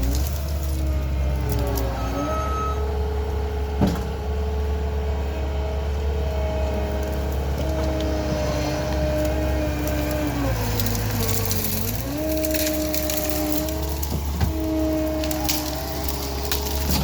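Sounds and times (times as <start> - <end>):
skid steer engine hum: 0.0 - 17.0
whining tones: 0.0 - 17.0.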